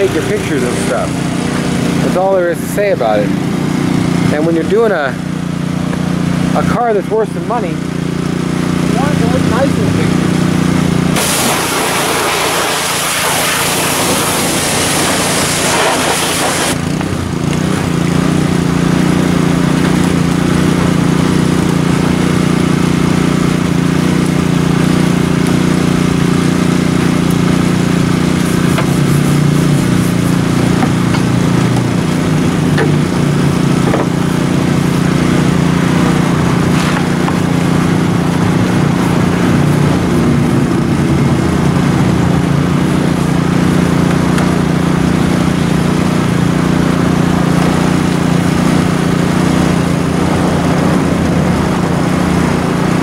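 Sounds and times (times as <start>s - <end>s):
pressure washer spraying water: 0.0s - 6.6s, 7.7s - 53.0s
engine running: 0.0s - 53.0s.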